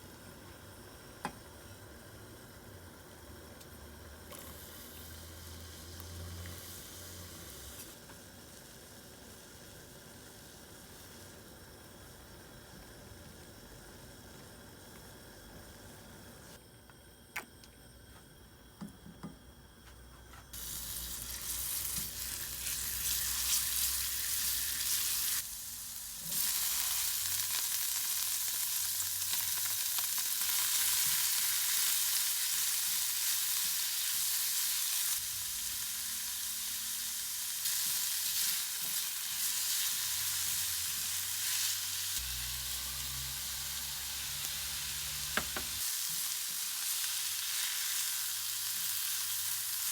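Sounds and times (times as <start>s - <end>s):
food sizzling in a pan: 0.0s - 14.9s, 20.5s - 49.9s.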